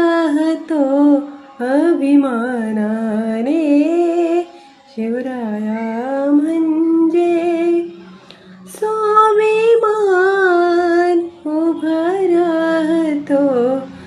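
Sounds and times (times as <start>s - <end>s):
woman singing solo: 0.0s - 14.0s.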